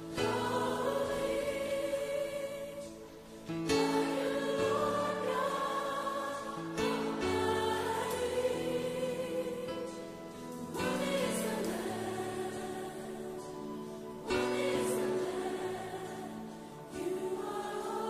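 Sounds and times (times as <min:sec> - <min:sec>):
choir singing a worship song: 0:00.0 - 0:18.0.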